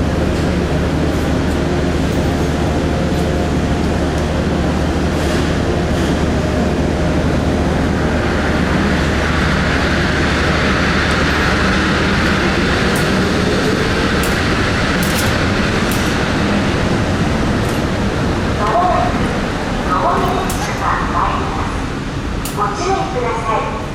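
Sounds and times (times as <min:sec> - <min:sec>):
low motor hum: 0:00.0 - 0:19.8.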